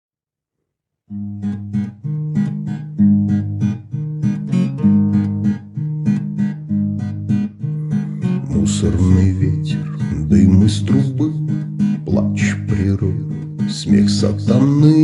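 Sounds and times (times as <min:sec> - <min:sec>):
acoustic guitar strumming: 0:01.1 - 0:15.0.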